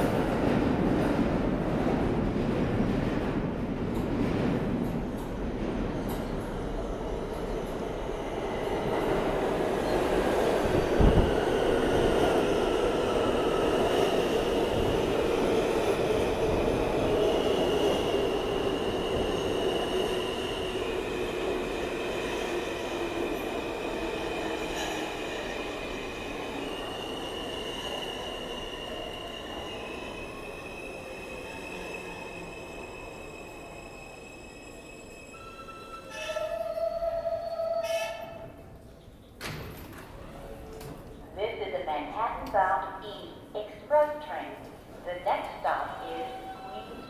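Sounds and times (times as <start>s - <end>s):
subway train rumbling: 0.0s - 47.0s.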